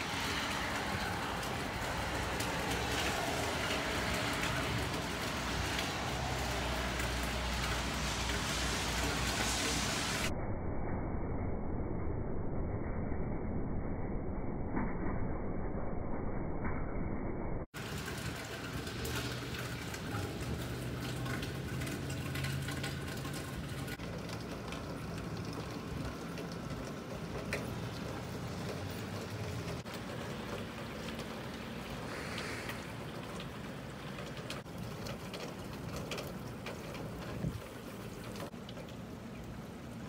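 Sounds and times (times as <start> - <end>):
steady rain falling: 0.0 - 10.3, 17.8 - 40.0.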